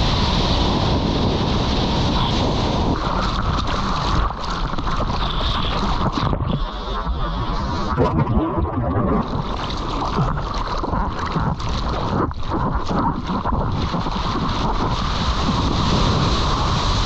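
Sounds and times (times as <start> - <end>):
seawater rushing and splashing: 0.0 - 17.0
wind buffeting microphone: 0.0 - 17.0.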